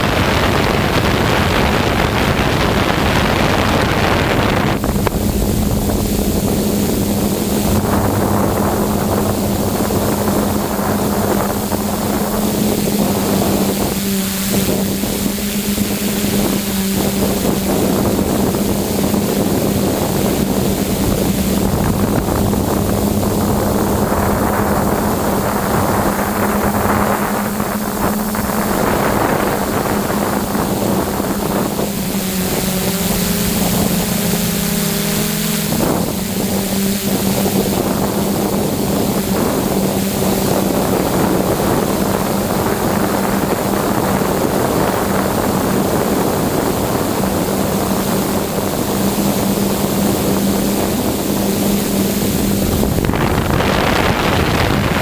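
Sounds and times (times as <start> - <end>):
drone motors humming: 0.0 - 55.0
rushing wind: 0.0 - 55.0.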